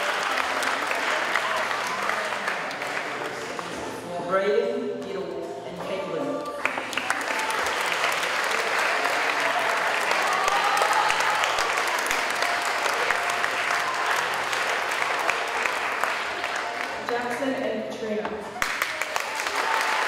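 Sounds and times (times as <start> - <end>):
audience applauding: 0.0 - 4.0, 6.4 - 17.6, 18.6 - 20.0.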